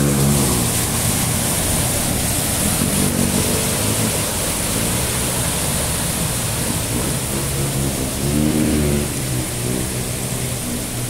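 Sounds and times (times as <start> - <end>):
car engine running low: 0.0 - 11.0
floodwater running: 0.0 - 11.0
torrential rain pouring: 0.0 - 11.0.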